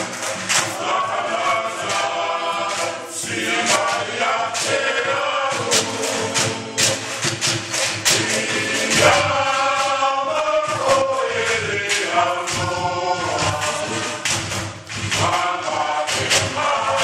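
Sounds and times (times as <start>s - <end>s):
group singing a chant-like song: 0.0s - 17.0s
sharp percussive strikes: 0.0s - 17.0s.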